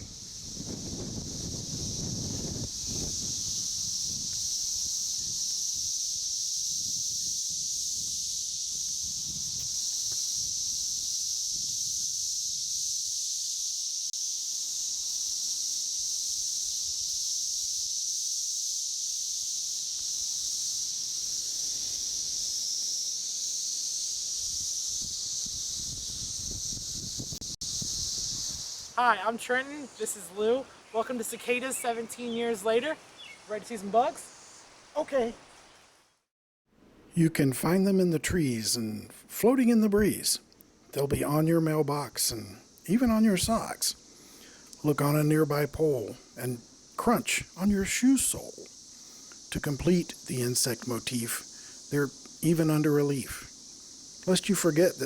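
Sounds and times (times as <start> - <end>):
cicadas buzzing drone: 0.0 - 36.2, 37.2 - 55.0.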